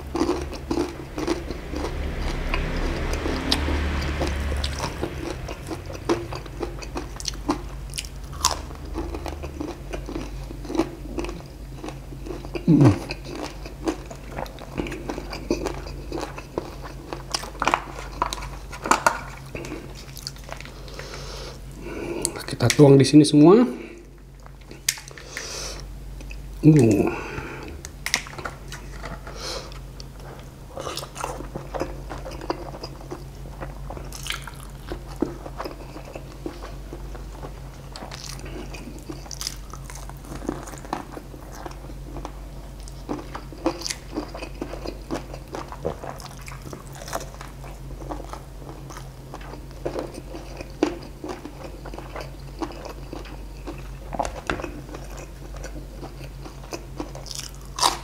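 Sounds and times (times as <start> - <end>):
chewing crispy fried chicken: 0.0 - 22.9, 23.8 - 58.0.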